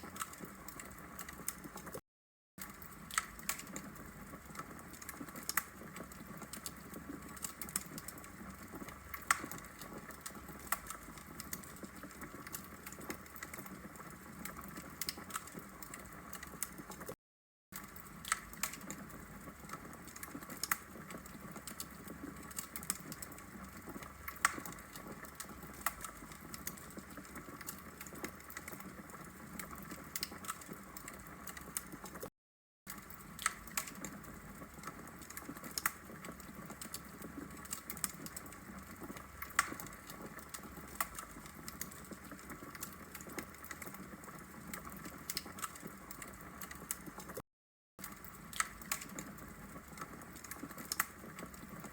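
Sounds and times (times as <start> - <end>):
log fire crackling: 0.0 - 2.0, 2.6 - 17.1, 17.8 - 32.2, 32.9 - 47.4, 48.0 - 51.9.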